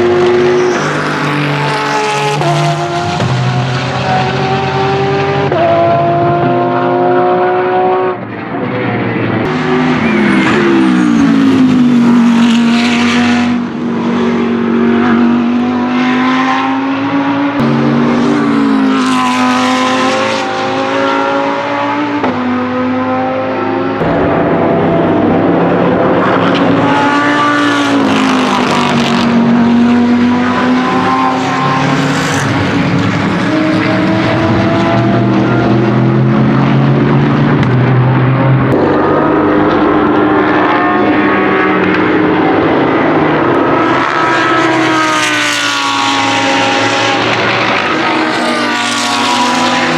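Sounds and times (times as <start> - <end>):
race car engine running hard: 0.0 - 49.9.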